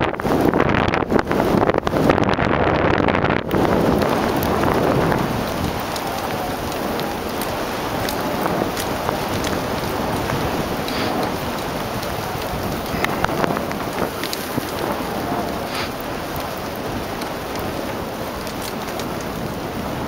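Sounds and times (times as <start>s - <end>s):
sled runners and paws hissing on snow: 3.5s - 20.0s.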